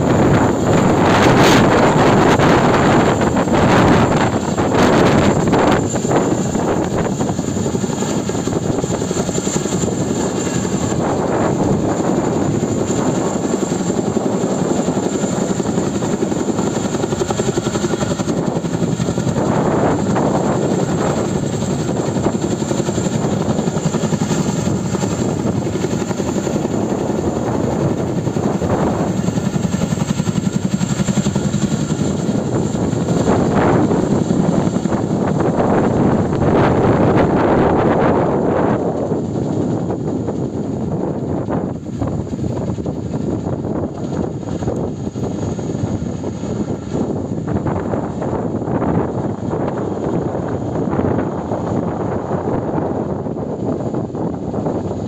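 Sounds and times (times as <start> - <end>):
helicopter rotors beating: 0.0 - 55.0.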